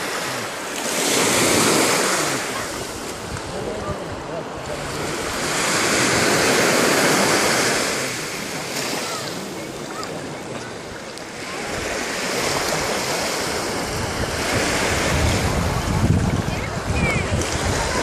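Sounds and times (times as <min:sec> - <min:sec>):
small waves breaking on beach: 0:00.0 - 0:18.0.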